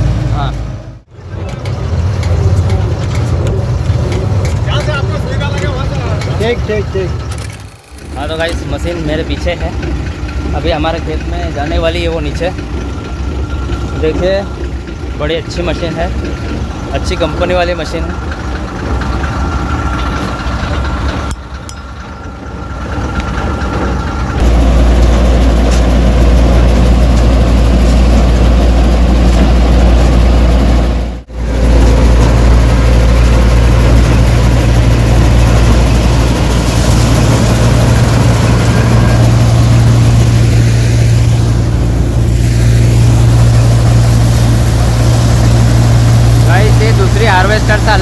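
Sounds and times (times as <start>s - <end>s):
combine harvester engine running: 0.0s - 48.0s.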